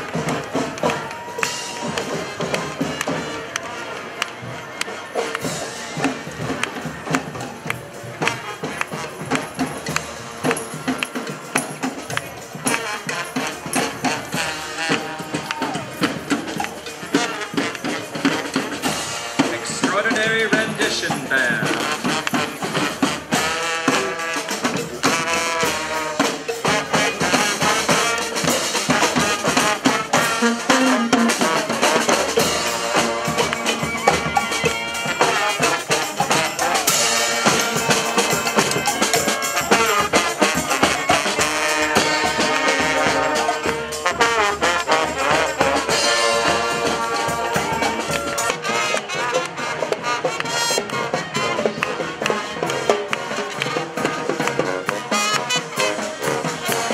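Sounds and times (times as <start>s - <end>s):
brass band horns: 0.0s - 56.9s
steady drum beat: 0.0s - 56.9s.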